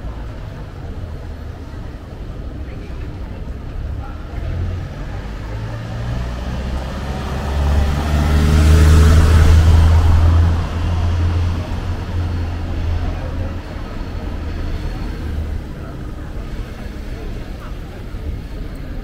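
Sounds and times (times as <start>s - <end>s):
street noise: 0.0s - 19.0s
vehicle engine passing: 3.4s - 19.0s.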